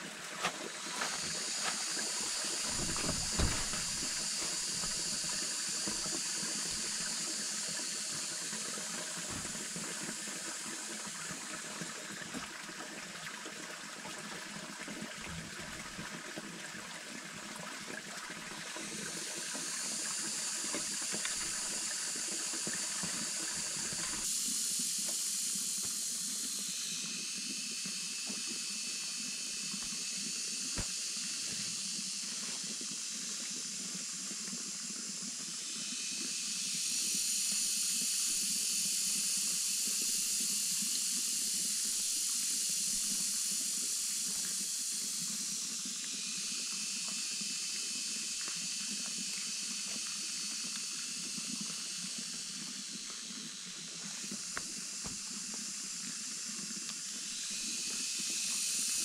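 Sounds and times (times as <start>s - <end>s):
high-pitched hiss: 0.0s - 11.6s, 18.8s - 59.0s.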